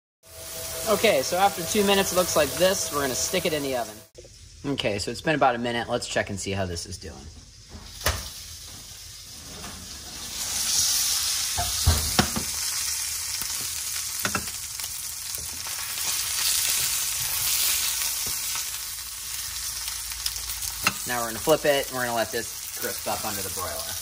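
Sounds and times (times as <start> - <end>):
steak sizzling in a skillet: 0.2 - 4.5, 7.8 - 24.0.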